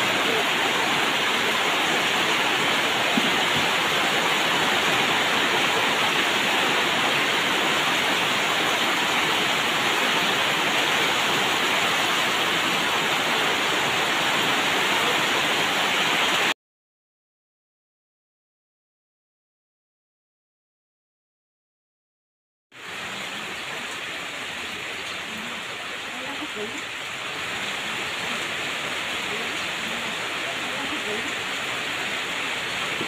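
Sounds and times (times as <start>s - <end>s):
heavy rain: 0.0s - 16.6s, 22.7s - 33.0s.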